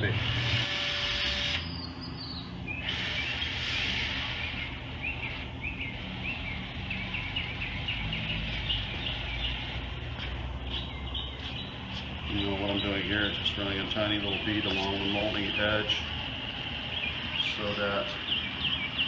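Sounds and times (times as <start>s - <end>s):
bird chirping: 1.6s - 19.0s.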